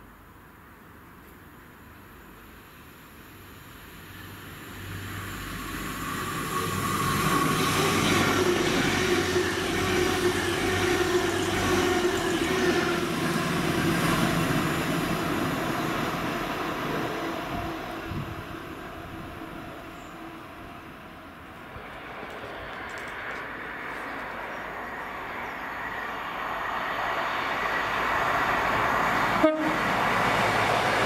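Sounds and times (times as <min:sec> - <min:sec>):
train passing: 0:02.1 - 0:31.0.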